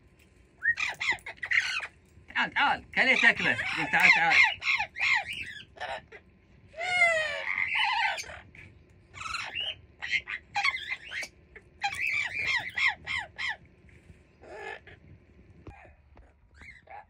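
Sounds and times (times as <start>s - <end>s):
parrots squawking and whistling: 0.6s - 2.0s, 3.0s - 13.6s, 14.4s - 15.0s, 15.7s - 17.0s.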